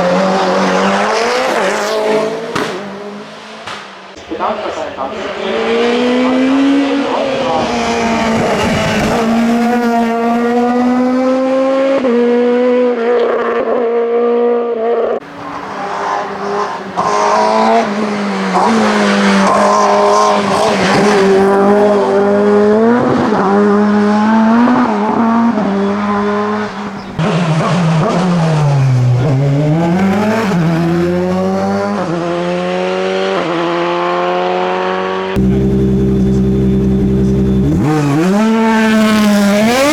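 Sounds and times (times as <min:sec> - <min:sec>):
race car engine at full throttle: 0:00.0 - 0:39.9.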